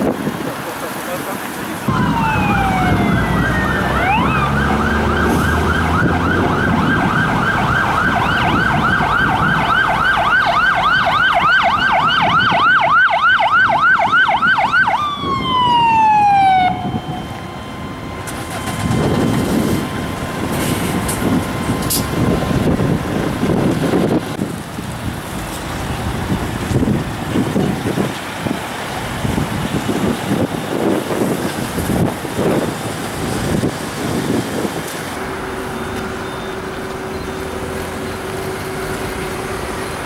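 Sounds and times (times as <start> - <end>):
traffic noise: 0.0 - 40.0
truck engines rumbling: 0.0 - 40.0
fire engine siren yelping: 1.9 - 24.8, 25.7 - 40.0.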